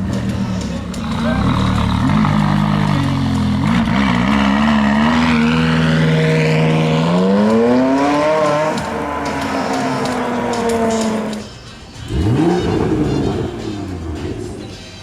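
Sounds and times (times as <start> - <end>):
sports car engine accelerating: 0.0 - 14.8.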